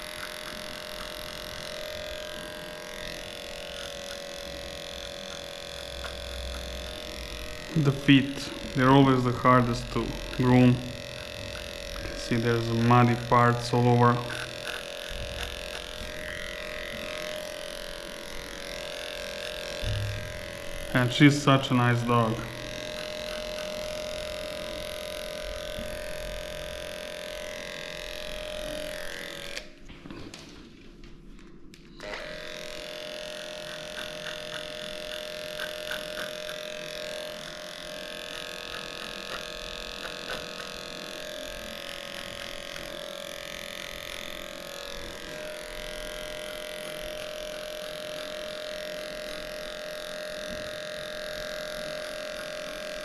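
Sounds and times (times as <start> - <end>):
electric clippers humming: 0.0 - 30.3, 31.6 - 53.0.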